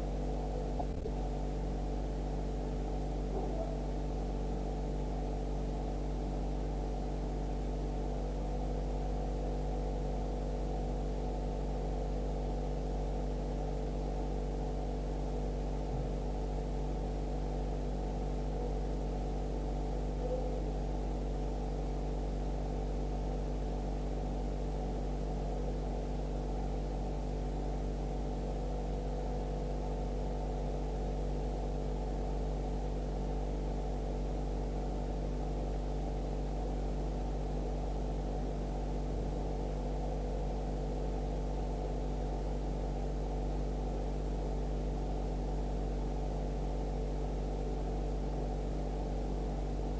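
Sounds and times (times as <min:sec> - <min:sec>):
low hum of held tones: 0:00.0 - 0:49.9.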